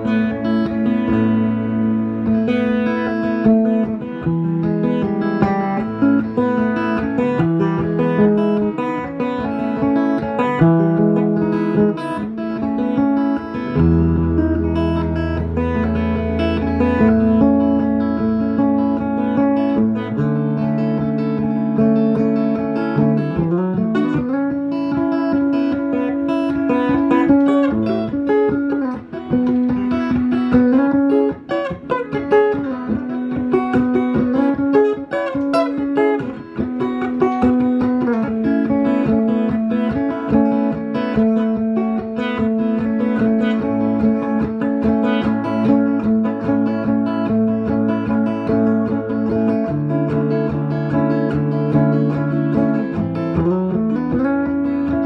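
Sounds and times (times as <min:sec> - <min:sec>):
electric guitar jam: 0:00.0 - 0:55.0.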